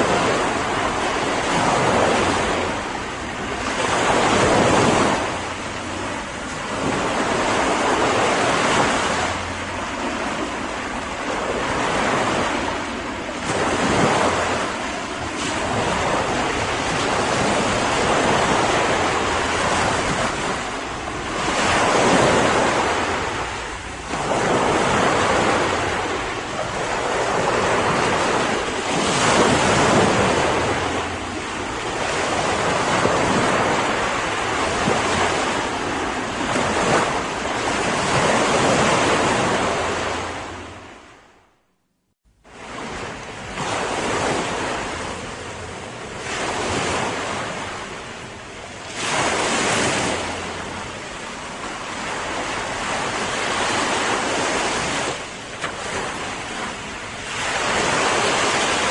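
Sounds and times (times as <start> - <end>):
ocean waves breaking on shore: 0.0 - 41.6, 42.3 - 58.9.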